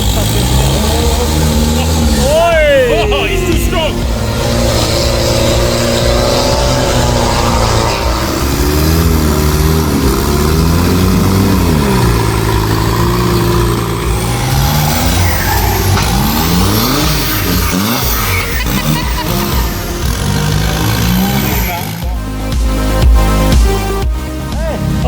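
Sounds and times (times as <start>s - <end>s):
off-road engines revving: 0.0s - 25.0s.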